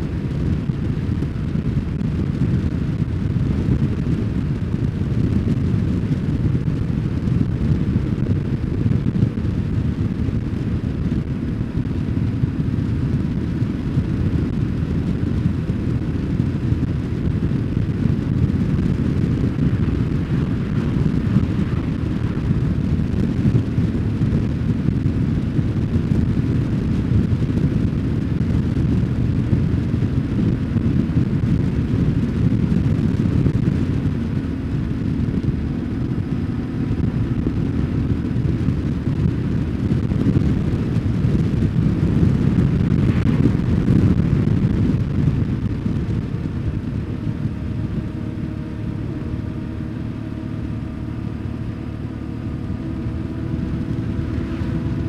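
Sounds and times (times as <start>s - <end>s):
motorcycle engine drone: 0.0s - 55.0s
wind buffeting microphone: 0.0s - 55.0s.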